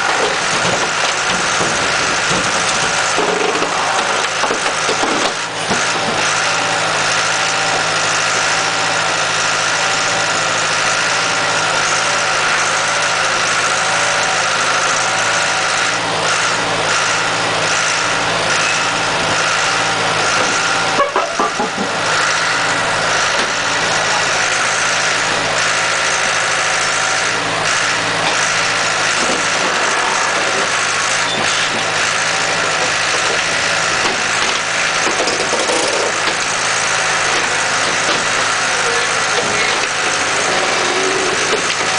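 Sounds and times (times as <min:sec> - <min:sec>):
baler engine running: 0:00.0 - 0:41.9.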